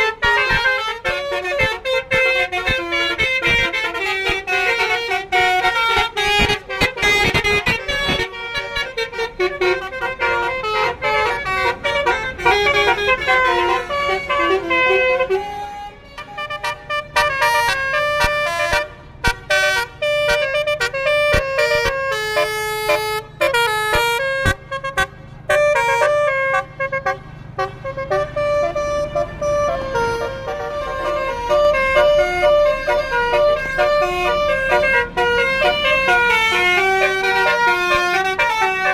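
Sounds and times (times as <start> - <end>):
melodic bus air horns: 0.0 - 38.9.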